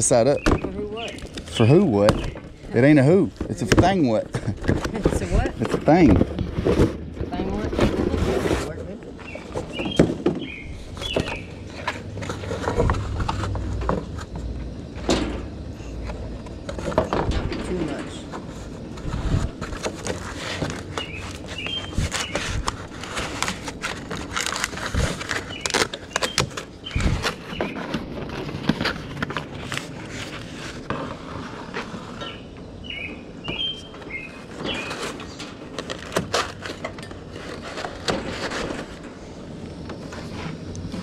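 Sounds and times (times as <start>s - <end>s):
camp stove knocking and scraping: 0.0s - 29.7s, 33.5s - 39.1s.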